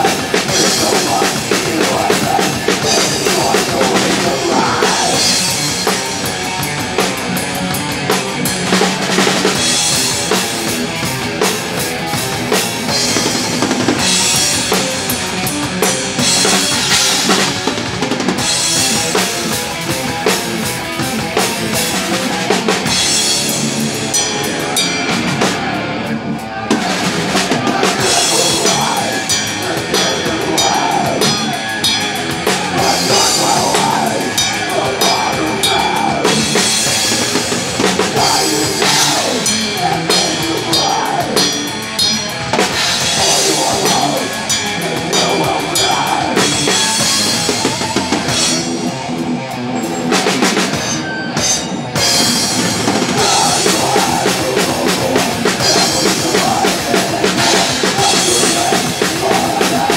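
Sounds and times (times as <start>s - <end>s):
death metal band playing live: 0.0s - 59.9s
drum kit playing loudly: 0.0s - 59.9s.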